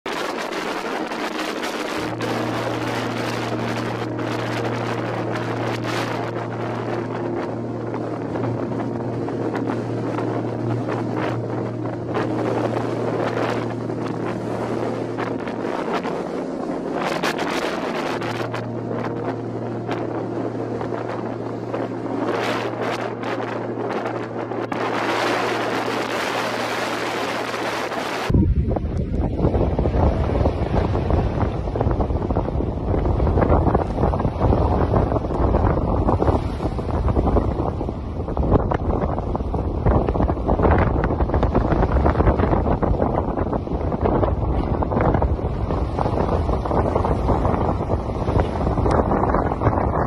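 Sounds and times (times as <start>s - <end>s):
gale wind buffeting microphone: 0.0s - 50.0s
waves breaking against sea wall: 0.1s - 28.4s, 29.0s - 50.0s
steady low hum: 0.3s - 50.0s.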